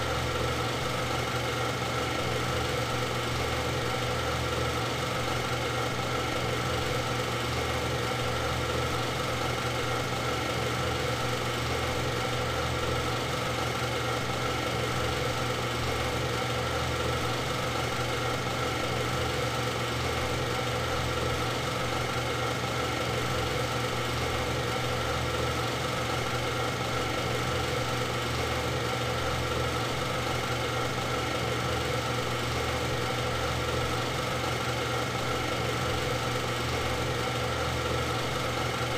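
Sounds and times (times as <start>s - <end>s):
machine humming steadily: 0.0s - 38.9s.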